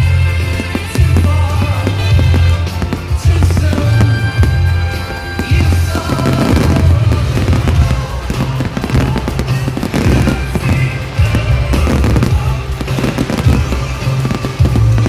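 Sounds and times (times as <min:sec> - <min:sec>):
fireworks crackling and rumbling: 0:00.0 - 0:15.0
music: 0:00.0 - 0:15.0.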